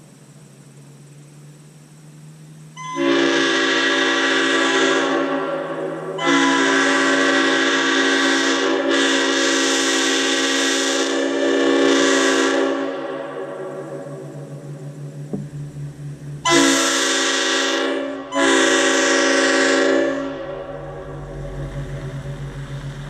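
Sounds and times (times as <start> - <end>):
locomotive air horn blasts: 2.8 - 14.7, 16.2 - 23.0.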